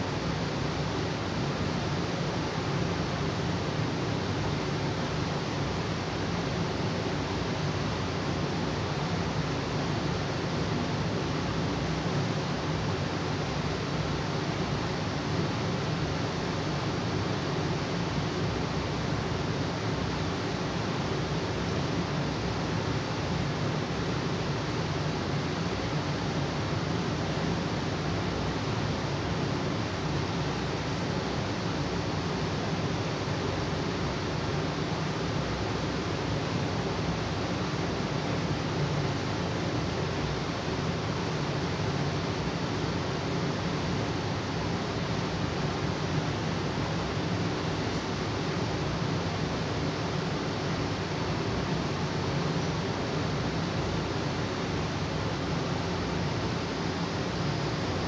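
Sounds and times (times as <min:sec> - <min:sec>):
steady rushing hiss: 0:00.0 - 0:58.0.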